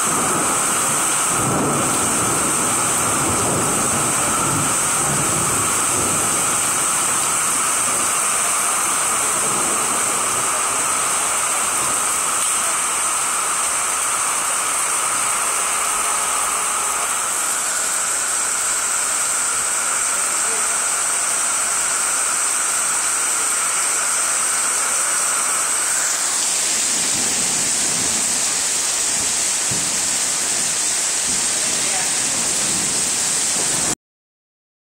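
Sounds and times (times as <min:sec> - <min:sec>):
low thunder rumble: 0:00.0 - 0:20.1, 0:25.4 - 0:34.0
heavy rain on a street: 0:00.0 - 0:34.0.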